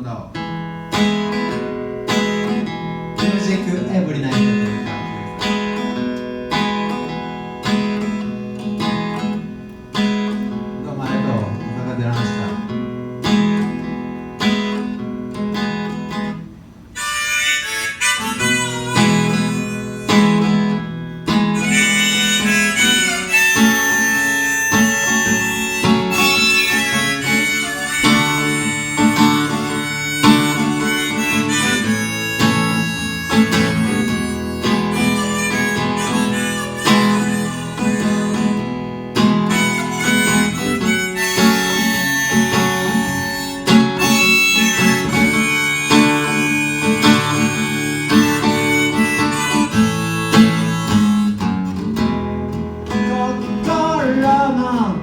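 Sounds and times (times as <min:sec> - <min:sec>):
acoustic guitar strumming: 0:00.0 - 0:55.0
harmonica melody: 0:00.0 - 0:55.0.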